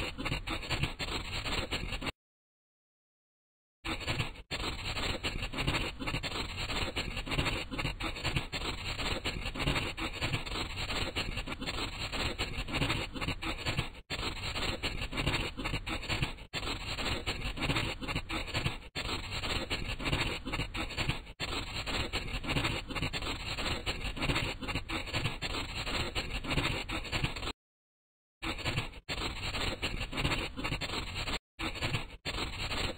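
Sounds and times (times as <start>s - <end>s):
coloring strokes on paper: 0.0s - 2.1s, 3.9s - 27.6s, 28.4s - 32.9s.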